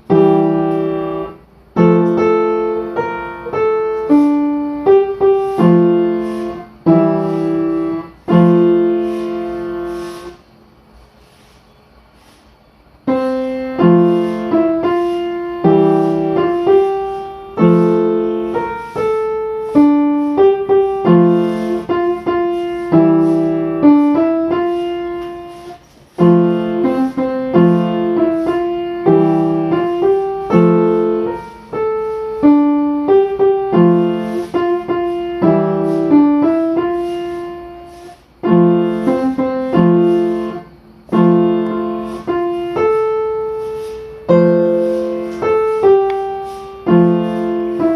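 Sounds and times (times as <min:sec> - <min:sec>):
solo piano music: 0:00.0 - 0:10.6, 0:12.8 - 0:47.9.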